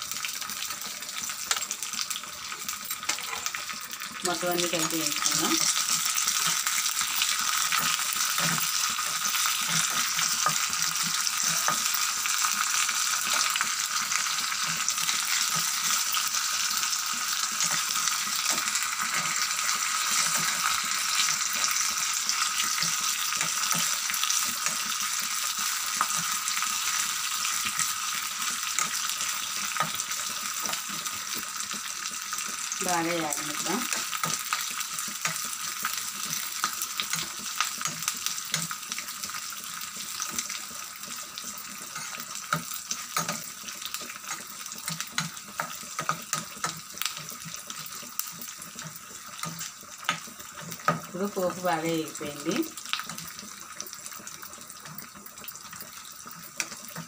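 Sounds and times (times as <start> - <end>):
oil sizzling in a pan: 0.0 - 57.0.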